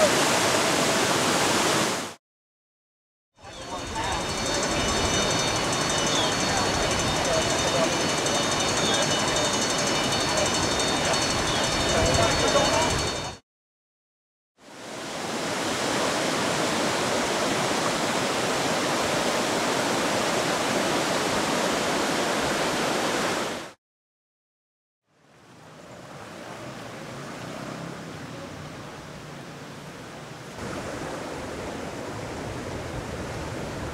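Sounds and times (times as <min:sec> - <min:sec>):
floodwater rushing: 0:00.0 - 0:02.2, 0:03.4 - 0:13.3, 0:14.7 - 0:23.8, 0:25.5 - 0:33.9.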